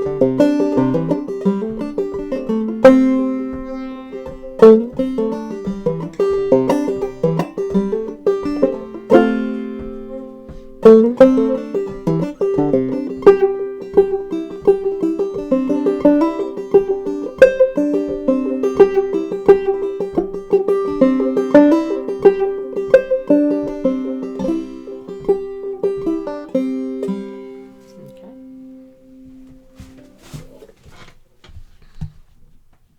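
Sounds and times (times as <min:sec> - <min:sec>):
banjo playing fiddle tune: 0:00.0 - 0:30.4.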